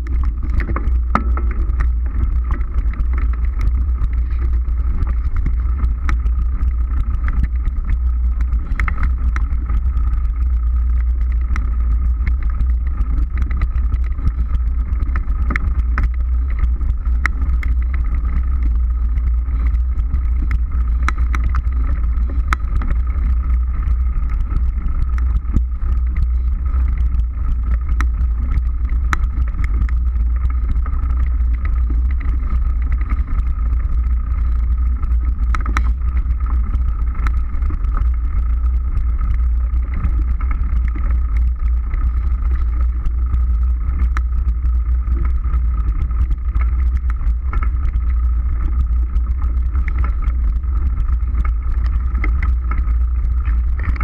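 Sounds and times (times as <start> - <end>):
bike clicks and rattles: 0.0 - 54.0
thin whine: 0.0 - 54.0
wind and tyre rumble: 0.0 - 54.0.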